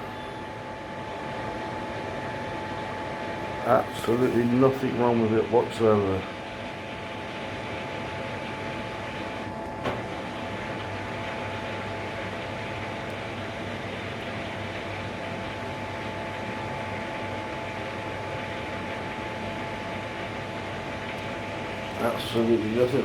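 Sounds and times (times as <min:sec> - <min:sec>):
dryer drum and fan humming: 0:00.0 - 0:23.0.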